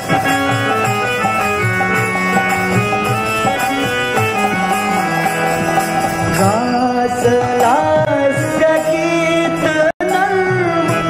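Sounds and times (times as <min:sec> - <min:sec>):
devotional melody instrument: 0:00.0 - 0:11.0
light steady percussion: 0:00.0 - 0:11.0.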